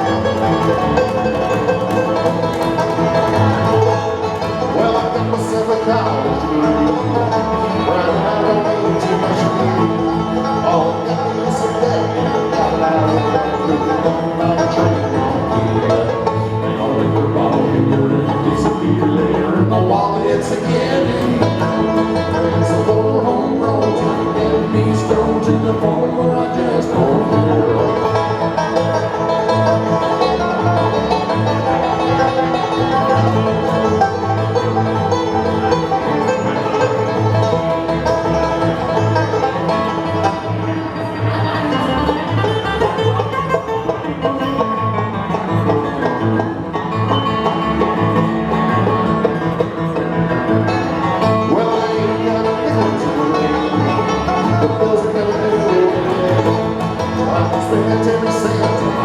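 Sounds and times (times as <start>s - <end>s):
banjo picking: 0.0s - 59.0s
guitar picking: 0.0s - 59.0s.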